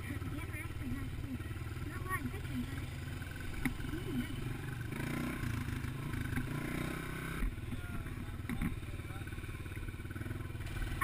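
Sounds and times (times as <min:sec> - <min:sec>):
bike rattling over rough trail: 0:00.0 - 0:11.0
dirt bike engine running: 0:00.0 - 0:11.0.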